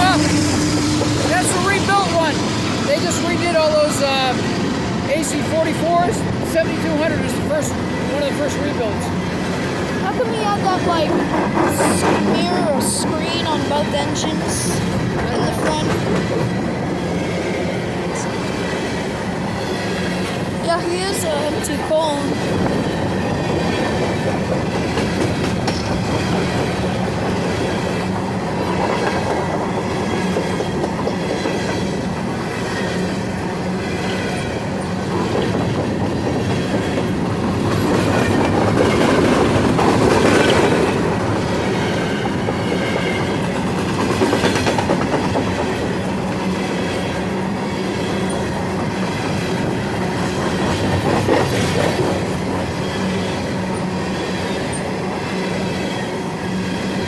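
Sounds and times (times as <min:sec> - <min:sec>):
freight train wheels rumbling: 0:00.0 - 0:57.0
wheels clicking over rail joints: 0:02.9 - 0:57.0.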